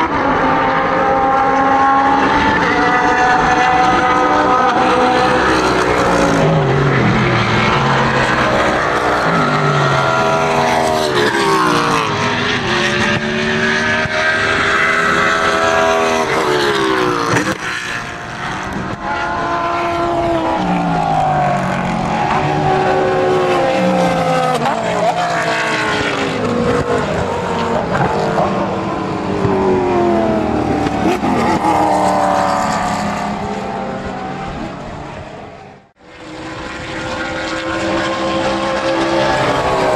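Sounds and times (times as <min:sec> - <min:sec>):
race car engines at racing speed: 0:00.0 - 0:39.9.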